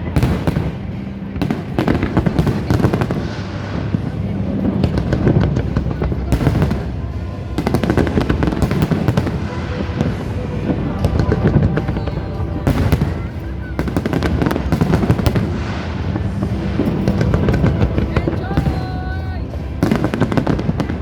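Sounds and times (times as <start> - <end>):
fireworks crackling bangs: 0.0 - 21.0
low rumble: 0.0 - 21.0
music: 0.0 - 21.0.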